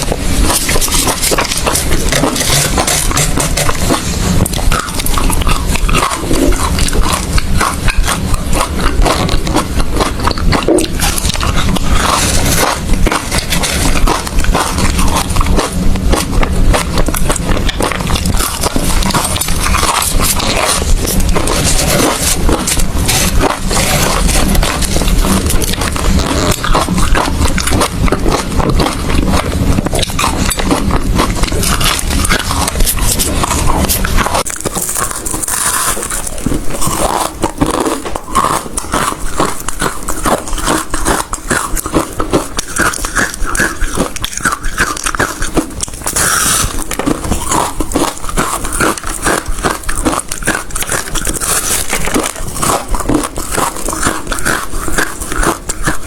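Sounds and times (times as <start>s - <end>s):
person crunching ice: 0.0s - 56.0s.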